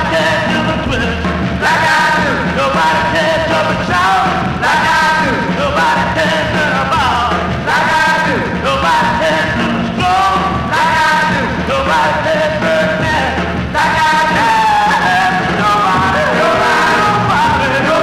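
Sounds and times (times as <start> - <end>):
band accompaniment: 0.0 - 18.0
person singing: 0.0 - 18.0.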